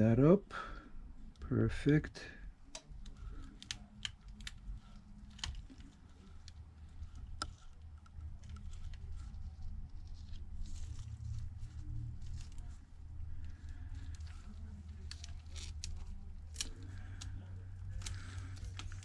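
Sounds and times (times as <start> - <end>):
low steady hum: 0.0 - 19.0
faint crinkling: 2.2 - 19.0.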